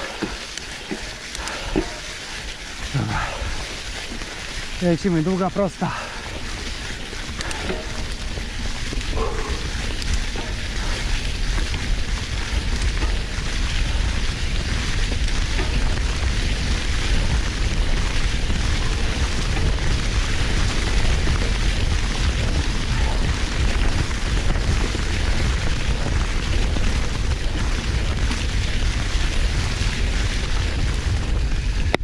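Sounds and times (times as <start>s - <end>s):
bike tyres rolling through leaves: 0.0s - 32.0s
wind on microphone: 5.9s - 32.0s.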